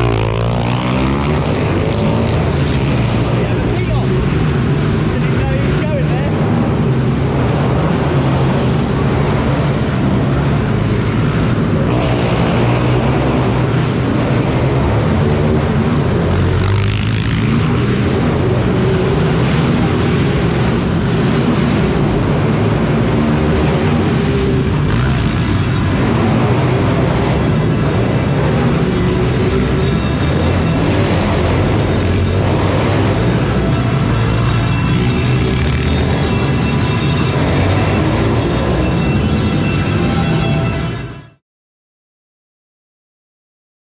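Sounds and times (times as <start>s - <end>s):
minibike engines revving: 0.0s - 41.0s.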